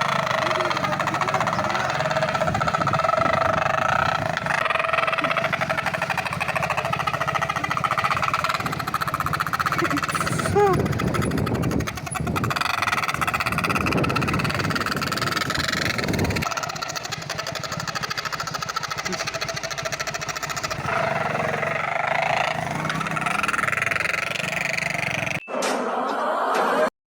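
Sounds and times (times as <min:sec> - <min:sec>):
motorcycle engine rumble: 0:00.0 - 0:25.4.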